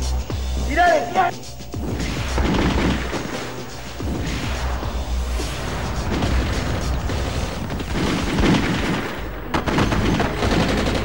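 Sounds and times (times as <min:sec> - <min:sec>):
dramatic action music: 0:00.0 - 0:11.0
gunfire shots and booms: 0:01.8 - 0:11.0.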